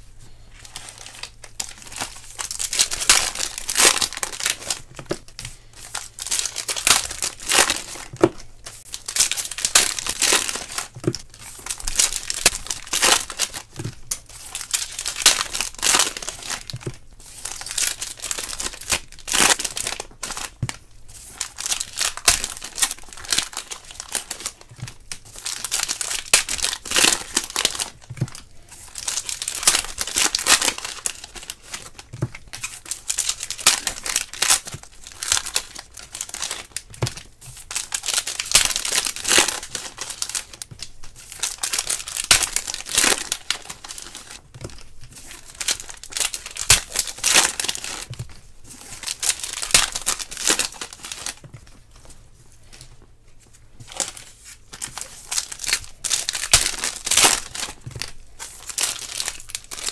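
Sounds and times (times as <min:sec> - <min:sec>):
foil wrappers tearing and crinkling: 0:00.5 - 0:51.5, 0:53.8 - 0:59.9.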